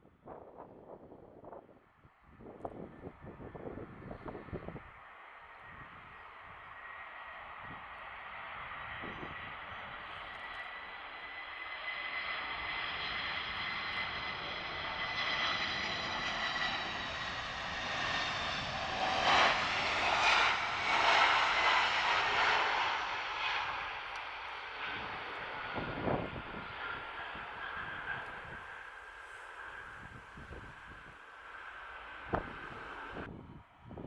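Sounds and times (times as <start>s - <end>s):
jet engines passing on landing: 0.3s - 34.0s.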